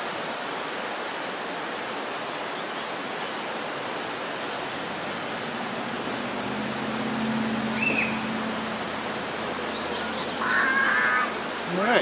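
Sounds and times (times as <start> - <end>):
fast-flowing stream: 0.0 - 12.0.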